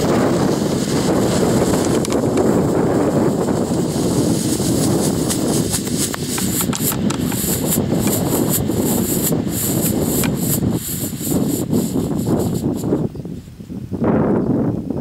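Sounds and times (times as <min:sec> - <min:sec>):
crackling fireworks pops: 0:00.0 - 0:13.1
wind buffeting microphone: 0:00.0 - 0:15.0.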